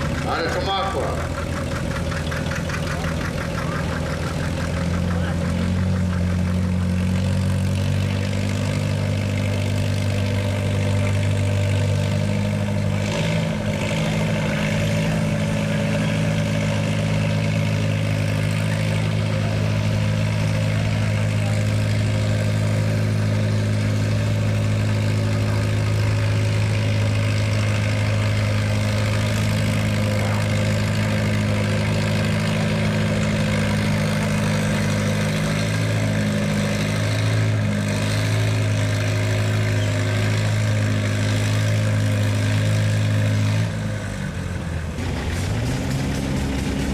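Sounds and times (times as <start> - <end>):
tractor engine running loud: 0.0 - 46.9.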